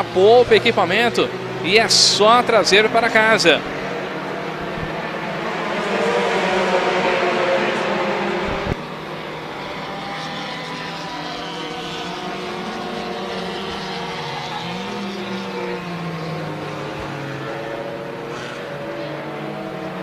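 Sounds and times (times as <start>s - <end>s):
race car engine: 0.0s - 20.0s.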